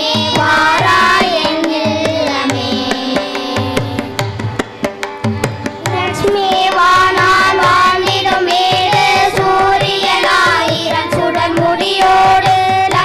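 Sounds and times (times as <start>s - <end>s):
children singing devotional song: 0.0s - 4.4s, 5.8s - 13.0s.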